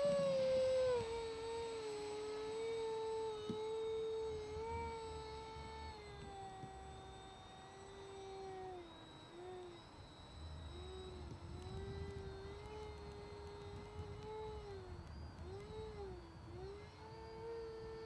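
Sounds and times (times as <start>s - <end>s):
model aircraft motors whining: 0.0s - 18.0s.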